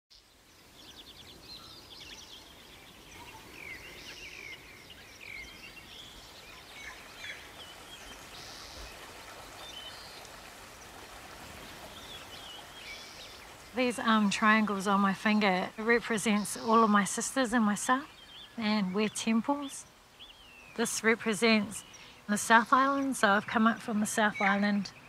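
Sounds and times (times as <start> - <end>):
birds chirping and trilling: 0.1 - 25.0
flowing water: 0.2 - 25.0.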